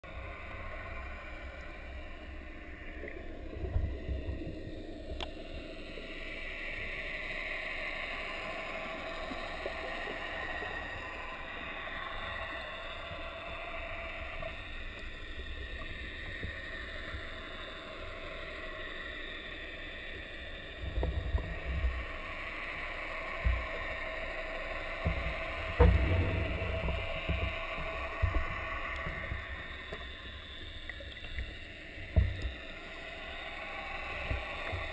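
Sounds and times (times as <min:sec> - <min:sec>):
underwater water noise: 0:00.0 - 0:34.9.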